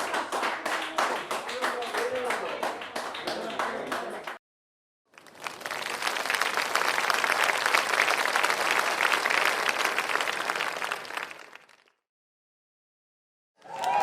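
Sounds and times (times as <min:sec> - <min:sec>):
crowd applauding: 0:00.0 - 0:04.4, 0:05.1 - 0:12.0, 0:13.6 - 0:14.0.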